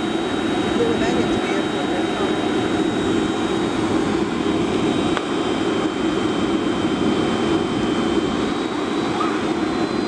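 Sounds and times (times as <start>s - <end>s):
airplane cabin engine rush: 0.0s - 10.0s
faint high whine: 0.0s - 10.0s.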